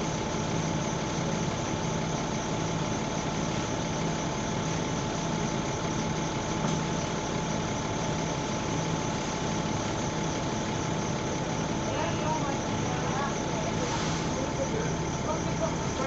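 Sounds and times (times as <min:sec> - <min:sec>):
bus diesel engine idling: 0:00.0 - 0:16.0
faint steady whine: 0:00.0 - 0:16.0.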